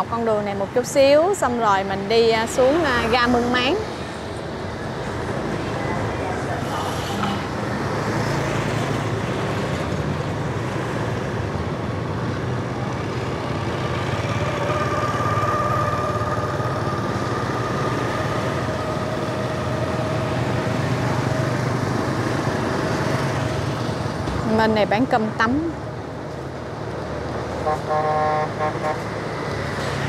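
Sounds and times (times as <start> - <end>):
road noise: 0.0 - 30.0.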